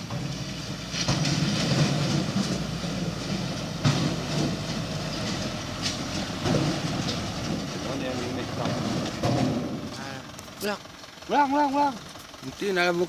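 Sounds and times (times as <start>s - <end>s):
dump truck mechanical rattle: 0.0s - 13.0s.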